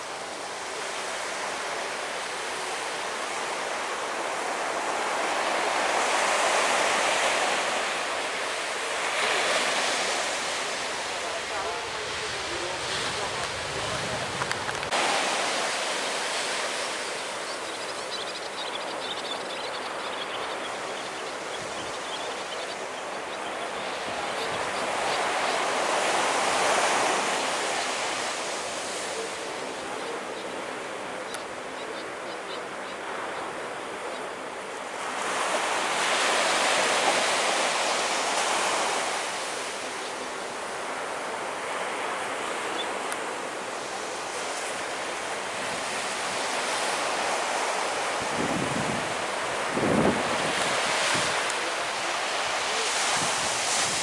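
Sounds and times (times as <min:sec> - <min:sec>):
surf washing onto beach: 0:00.0 - 0:54.0.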